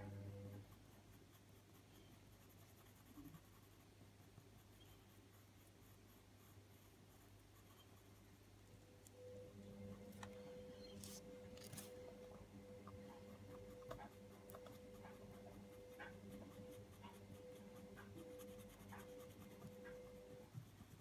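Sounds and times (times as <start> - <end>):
steady low hum: 0.0 - 21.0
pencil scratching on paper: 0.6 - 8.4, 9.8 - 21.0.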